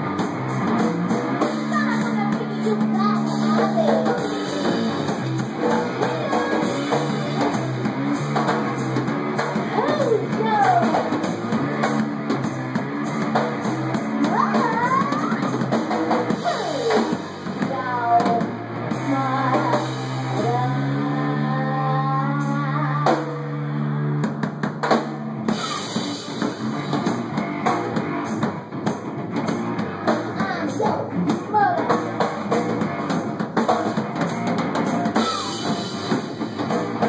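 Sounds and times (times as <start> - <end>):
drum kit: 0.0 - 37.0
electric guitar: 0.0 - 37.0.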